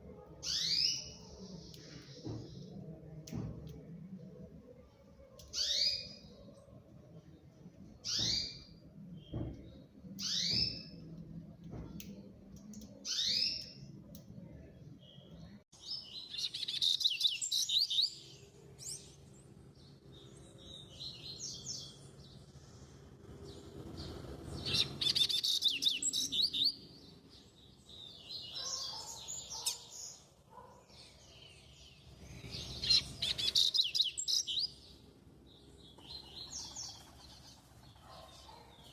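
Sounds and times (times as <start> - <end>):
rapid warbled birdsong: 0.0 - 3.2, 4.6 - 38.9.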